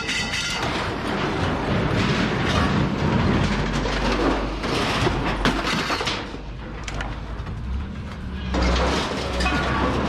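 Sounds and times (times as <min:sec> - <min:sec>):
scrap metal rattling and clanking: 0:00.0 - 0:10.0.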